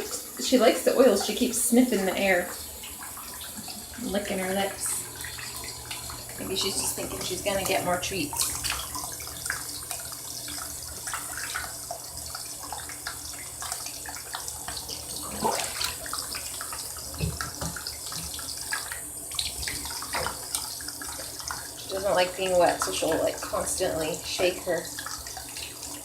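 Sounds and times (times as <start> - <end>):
small splashes: 0.0 - 26.0
water running from a tap: 0.0 - 26.0.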